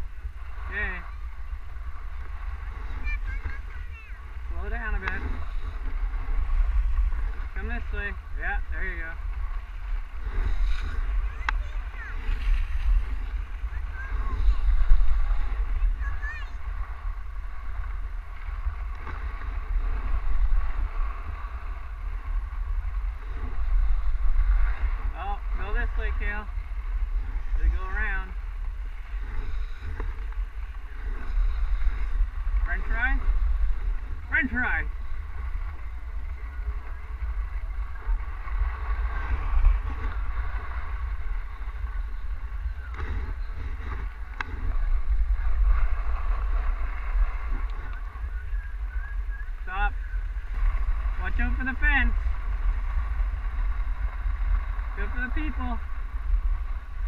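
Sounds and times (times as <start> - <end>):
skis sliding on snow: 0.0 - 16.8, 17.6 - 57.0
wind buffeting microphone: 0.0 - 57.0.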